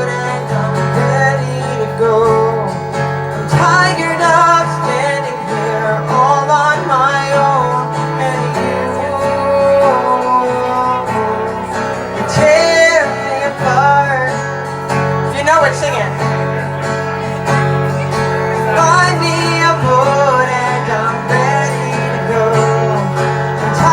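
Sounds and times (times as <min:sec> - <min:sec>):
acoustic guitar chords: 0:00.0 - 0:23.9
person singing: 0:00.0 - 0:23.9.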